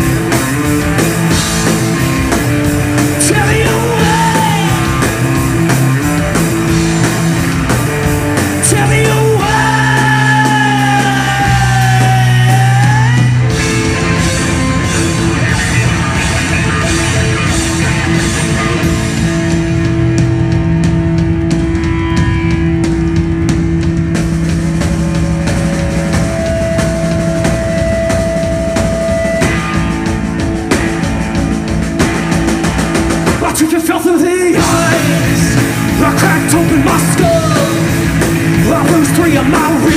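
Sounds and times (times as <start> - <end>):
rock band playing loudly: 0.0 - 39.9.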